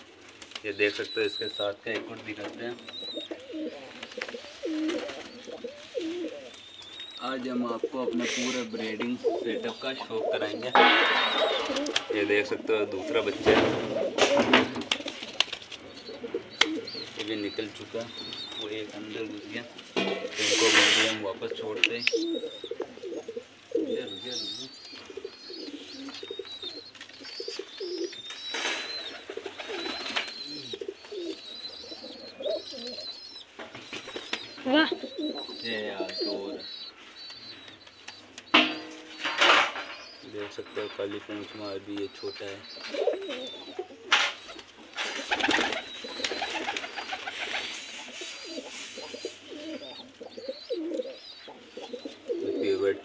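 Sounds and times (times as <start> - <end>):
pigeons cooing: 0.0 - 53.0
thin high bird calls: 0.7 - 53.0.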